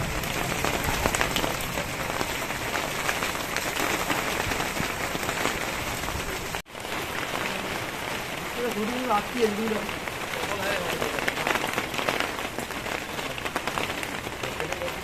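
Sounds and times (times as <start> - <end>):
rain falling on wet road: 0.0 - 15.0.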